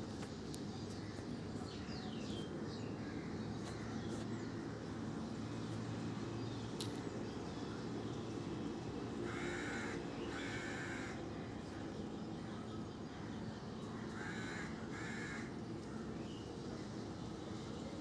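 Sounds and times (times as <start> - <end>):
low background noise: 0.0 - 18.0.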